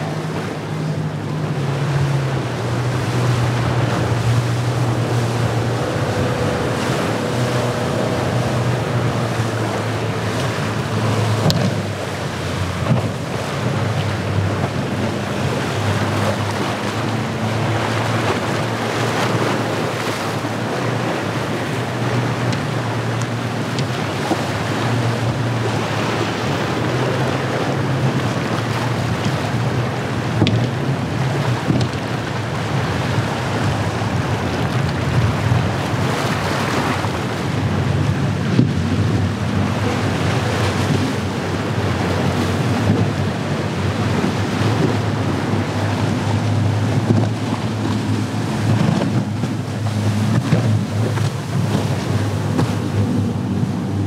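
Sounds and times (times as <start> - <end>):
boat engine droning: 0.0 - 54.0
waves splashing: 0.0 - 54.0
wind buffeting microphone: 0.0 - 54.0.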